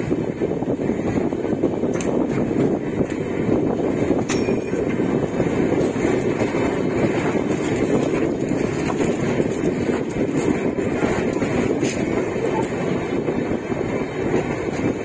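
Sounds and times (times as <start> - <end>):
train wheels rumbling on rails: 0.0 - 15.0
wind on microphone: 0.0 - 15.0.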